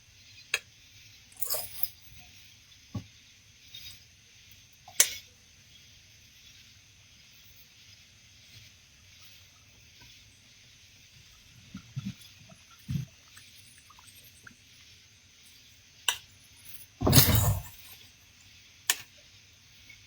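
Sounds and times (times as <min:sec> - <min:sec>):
night ambience hiss: 0:00.0 - 0:20.0.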